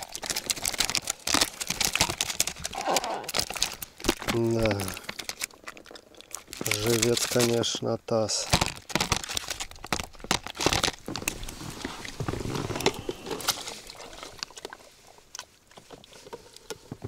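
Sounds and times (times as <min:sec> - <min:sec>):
clicks knocks and crunching rustles: 0:00.0 - 0:17.0.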